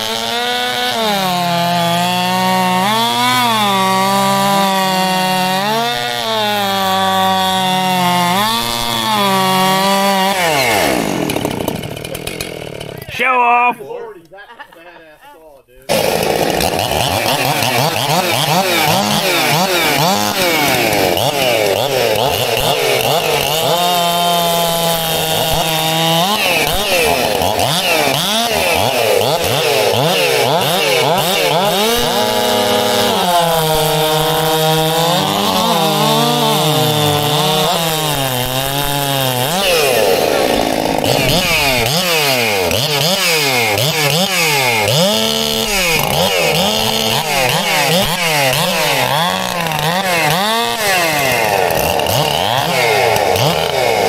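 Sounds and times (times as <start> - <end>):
chainsaw cutting timber: 0.0 - 13.2, 15.9 - 54.0.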